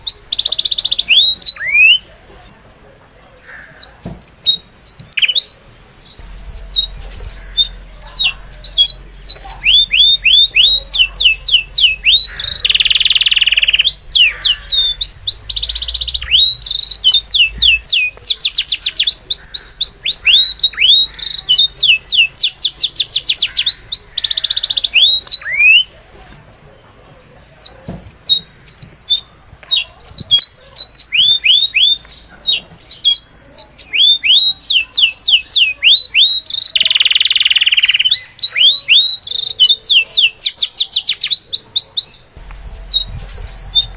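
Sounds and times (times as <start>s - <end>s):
buzzy bird calls: 0.0s - 2.2s, 3.2s - 26.1s, 27.5s - 43.9s
small birds chirping: 0.0s - 43.9s.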